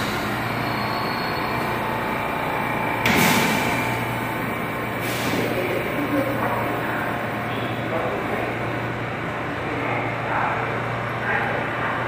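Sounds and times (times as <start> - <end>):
subway train equipment hum: 0.0 - 12.0.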